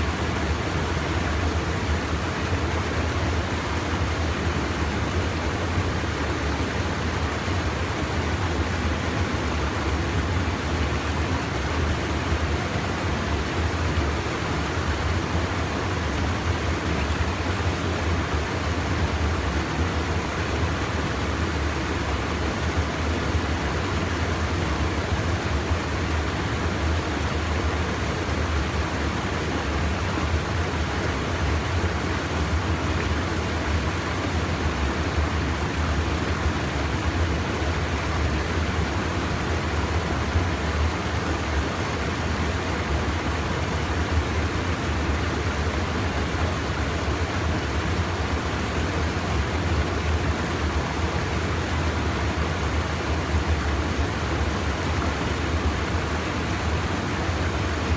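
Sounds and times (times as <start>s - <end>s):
water pouring over a dam: 0.0s - 57.9s.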